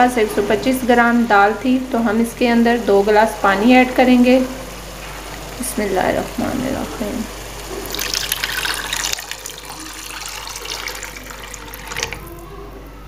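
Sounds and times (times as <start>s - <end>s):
water pouring into a pan: 0.7s - 12.8s.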